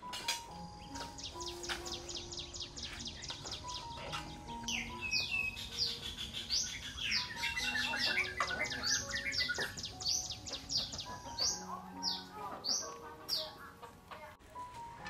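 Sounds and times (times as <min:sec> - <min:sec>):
small birds chirping: 0:00.0 - 0:14.4
soft background music: 0:00.0 - 0:15.0.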